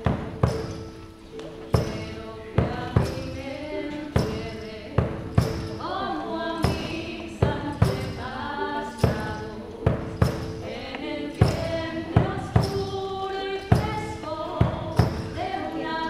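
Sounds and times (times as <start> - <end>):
hand drums beating: 0.0 - 16.0
women singing held notes: 1.4 - 16.0.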